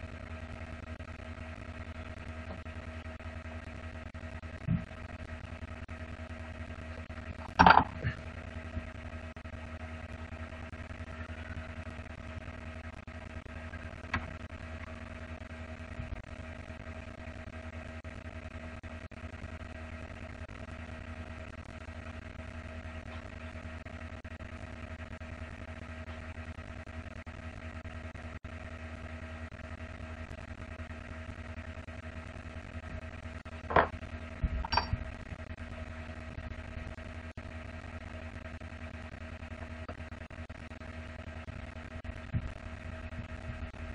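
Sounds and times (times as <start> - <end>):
steady machine hum: 0.0 - 43.9.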